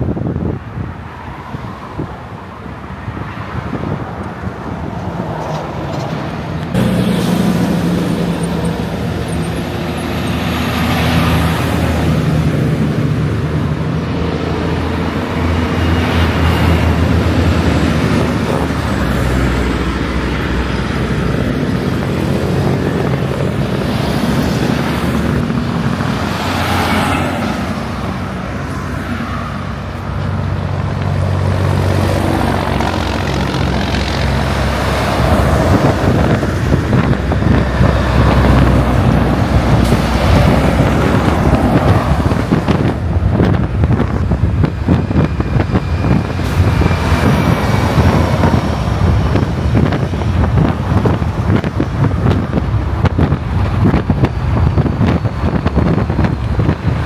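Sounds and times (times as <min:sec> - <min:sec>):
cars and trucks passing: 0:00.0 - 0:57.0
low diesel engine hum: 0:06.6 - 0:57.0.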